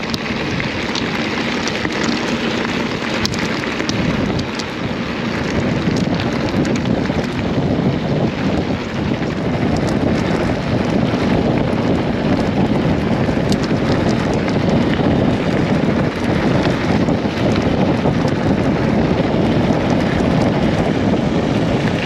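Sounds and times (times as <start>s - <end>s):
bike clicks and rattles: 0.0s - 22.0s
bike tyre noise: 0.0s - 22.0s
wind buffeting microphone: 0.0s - 22.0s.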